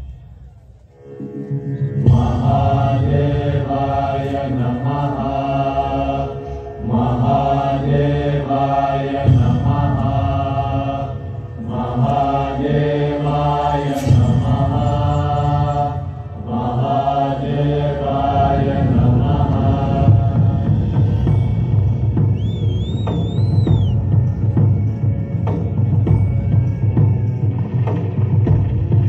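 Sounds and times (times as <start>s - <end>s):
low voices chanting: 0.0s - 24.2s.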